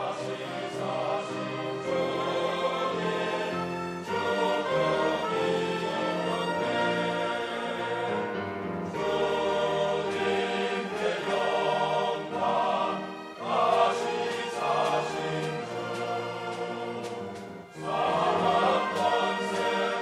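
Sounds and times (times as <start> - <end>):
church choir singing: 0.0 - 20.0.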